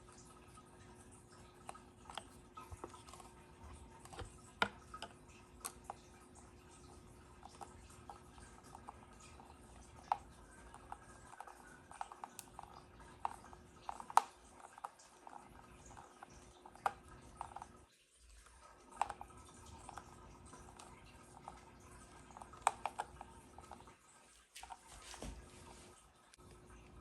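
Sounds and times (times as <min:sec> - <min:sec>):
light clicks and taps: 0:00.1 - 0:17.8, 0:18.4 - 0:23.9.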